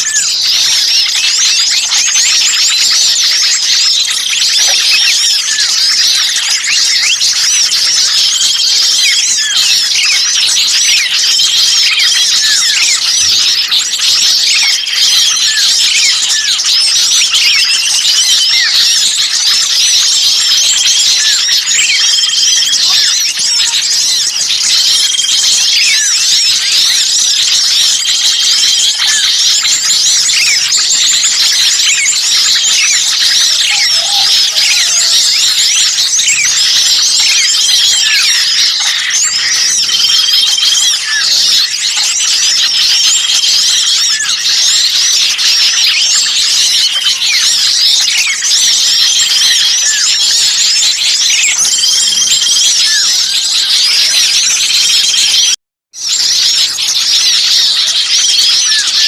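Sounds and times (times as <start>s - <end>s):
small songbirds chirping and trilling: 0.0s - 59.0s.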